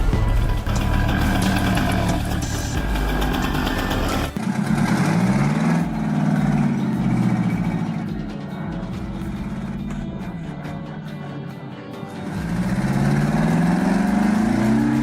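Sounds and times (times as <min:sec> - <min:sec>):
large engine revving: 0:00.0 - 0:10.3, 0:12.2 - 0:15.0.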